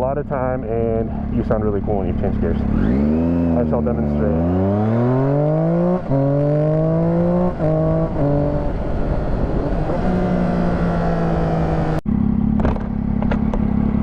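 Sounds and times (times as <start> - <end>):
motorcycle engine accelerating hard: 0.6 - 14.0.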